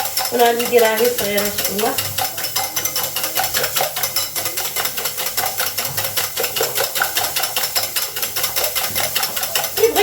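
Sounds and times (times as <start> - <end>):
batter whisked in a bowl: 0.0 - 10.0.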